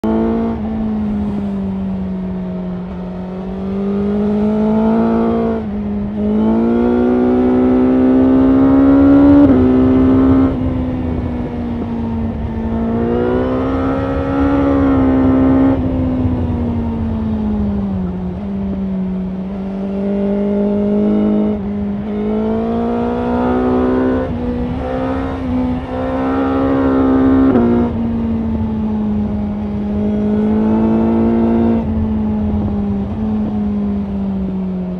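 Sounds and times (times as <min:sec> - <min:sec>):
motorcycle engine revving: 0:00.0 - 0:34.5.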